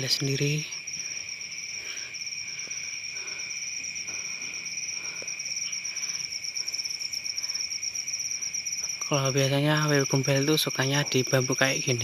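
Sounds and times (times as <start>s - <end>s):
crickets trilling: 0.0s - 12.0s
low steady insect note: 0.0s - 12.0s.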